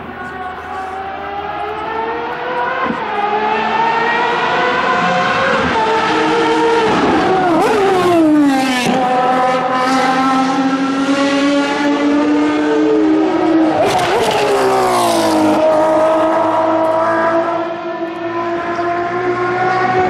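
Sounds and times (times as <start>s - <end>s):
race cars at high revs: 0.0s - 20.0s.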